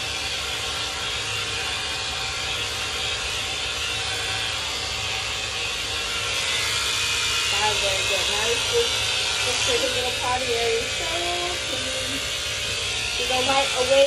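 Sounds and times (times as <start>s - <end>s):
electric clippers whirring: 0.0s - 14.0s.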